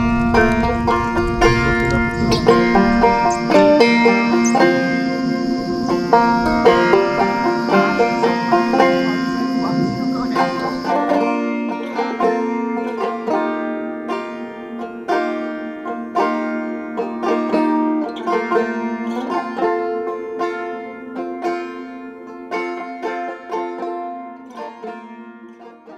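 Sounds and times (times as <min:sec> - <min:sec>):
plucked string music: 0:00.0 - 0:25.9.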